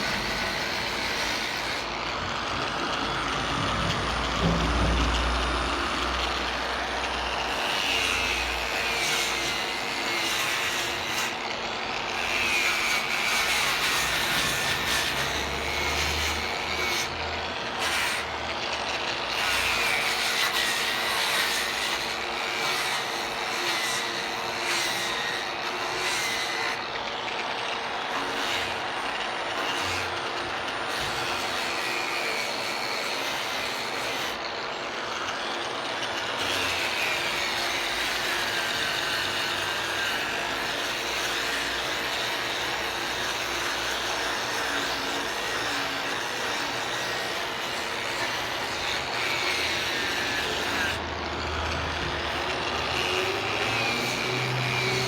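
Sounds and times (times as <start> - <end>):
power tool cutting wood: 0.0 - 55.0.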